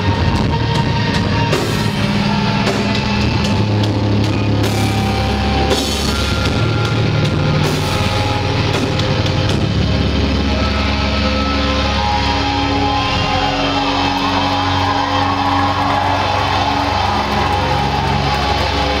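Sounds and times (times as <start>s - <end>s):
electric guitars ringing: 0.0s - 19.0s
live rock band playing: 0.0s - 19.0s.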